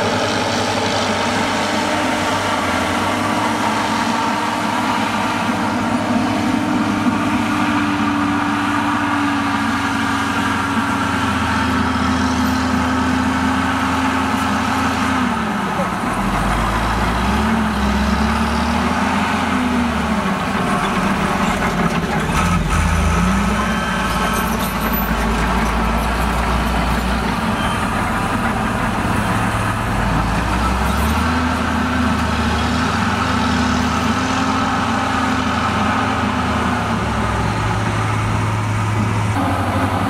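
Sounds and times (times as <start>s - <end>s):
diesel engine working: 0.0s - 40.0s.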